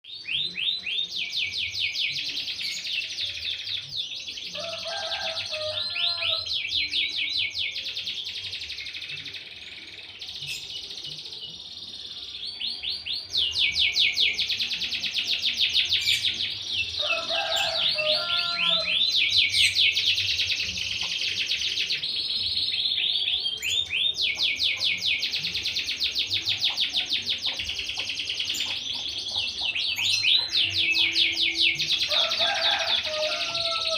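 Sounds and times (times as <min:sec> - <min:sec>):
canary singing trills: 0:00.0 - 0:33.9
lower chattering phrases: 0:05.8 - 0:33.9.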